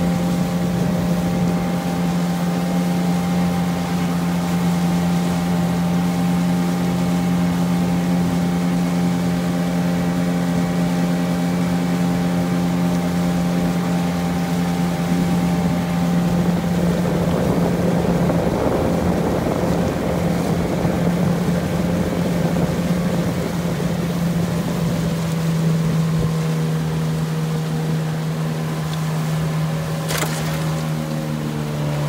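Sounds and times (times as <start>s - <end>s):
outboard motor running: 0.0s - 32.0s
water rushing along hull: 0.0s - 32.0s.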